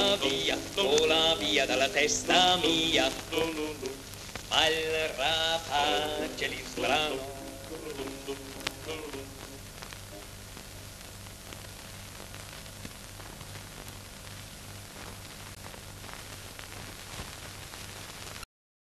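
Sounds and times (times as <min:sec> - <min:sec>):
hiss and crackle: 0:00.0 - 0:18.5.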